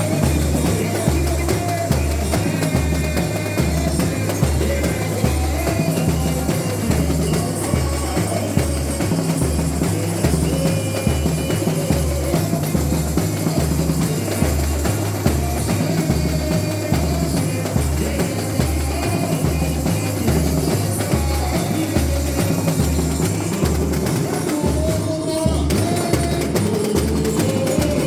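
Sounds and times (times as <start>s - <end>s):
deep bass drums beating: 0.0s - 28.0s
samba percussion ensemble: 0.0s - 28.0s.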